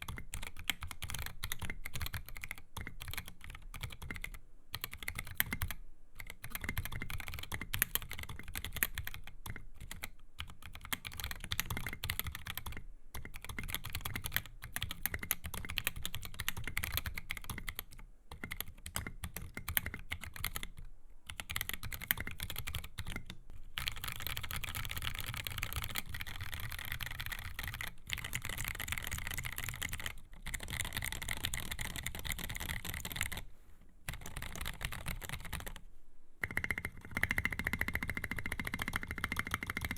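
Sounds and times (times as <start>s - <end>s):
mechanical keyboard typing: 0.0s - 33.4s, 34.1s - 35.8s, 36.4s - 39.9s.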